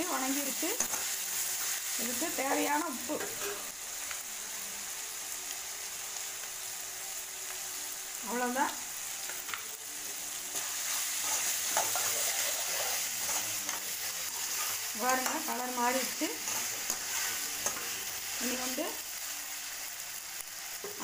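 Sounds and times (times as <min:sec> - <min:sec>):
onions frying in oil: 0:00.0 - 0:21.0.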